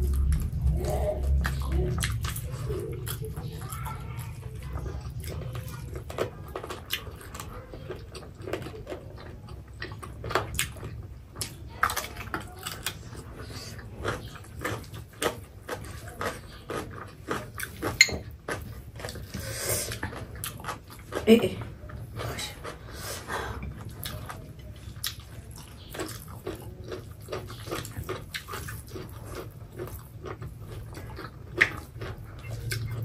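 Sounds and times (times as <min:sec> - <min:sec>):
chewing and mouth smacks: 0:00.0 - 0:33.0
low steady hum: 0:00.0 - 0:33.0.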